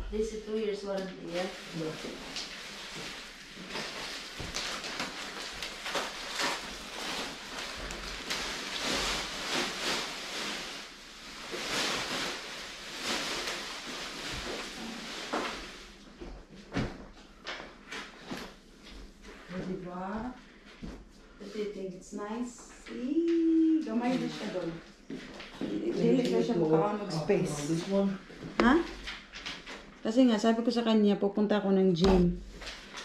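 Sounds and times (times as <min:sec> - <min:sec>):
plastic film rustling and crinkling: 0:00.3 - 0:21.6, 0:22.2 - 0:30.2, 0:32.4 - 0:33.0.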